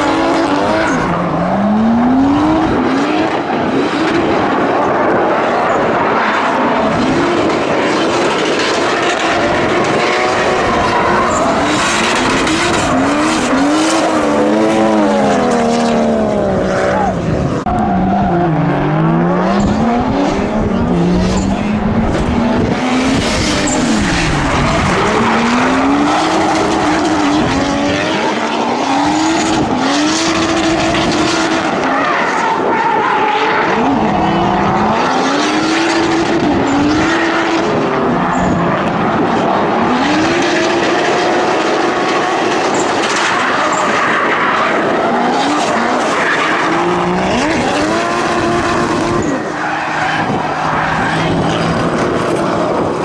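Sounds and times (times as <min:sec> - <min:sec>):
car engines revving: 0:00.0 - 0:53.0
tires squealing: 0:00.0 - 0:53.0.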